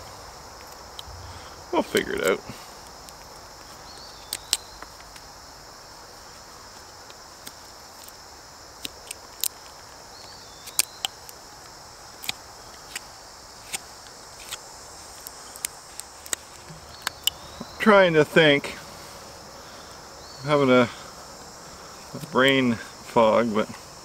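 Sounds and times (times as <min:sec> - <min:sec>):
crickets and insects chirring: 0:00.0 - 0:24.0.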